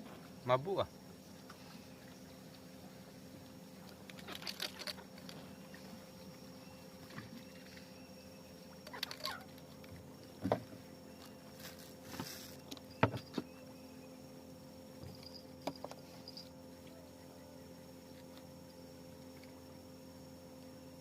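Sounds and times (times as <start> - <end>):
insect chorus trilling: 0.0 - 21.0.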